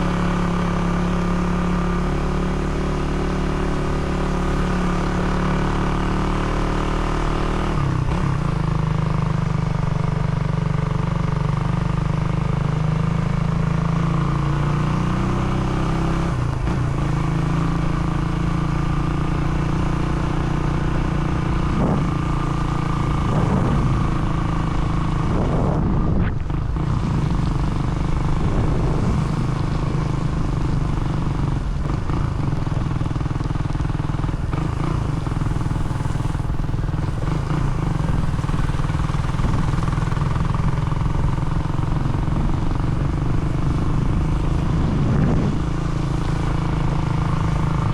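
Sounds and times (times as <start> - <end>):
road and wind noise: 0.0 - 47.9
vehicle engine running: 0.0 - 47.9.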